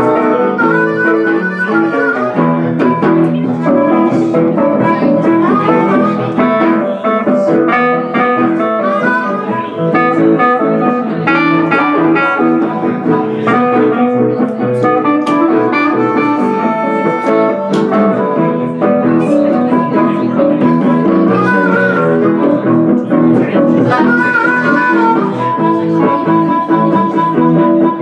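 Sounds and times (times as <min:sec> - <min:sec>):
electric guitar: 0:00.0 - 0:28.0
harmonica: 0:00.0 - 0:28.0
keyboard playing: 0:00.0 - 0:28.0.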